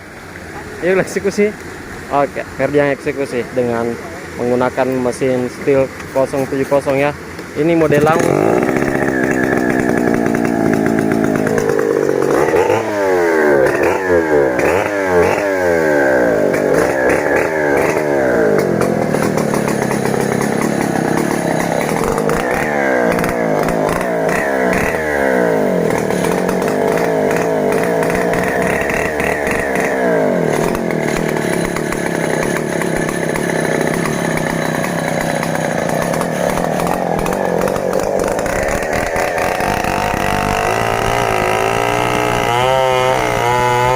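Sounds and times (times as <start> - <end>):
chainsaw cutting a log: 2.7 - 43.9.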